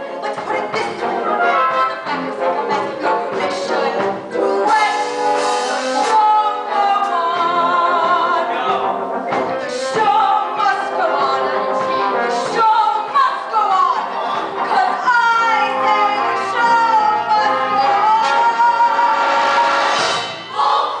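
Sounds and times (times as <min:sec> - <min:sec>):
performers singing with vibrato: 0:00.0 - 0:21.0
pit orchestra playing: 0:00.0 - 0:21.0.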